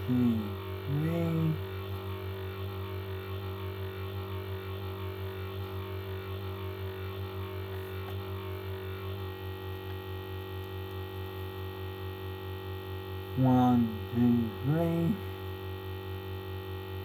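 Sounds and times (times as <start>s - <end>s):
pulsing hum of held tones: 0.0s - 17.0s.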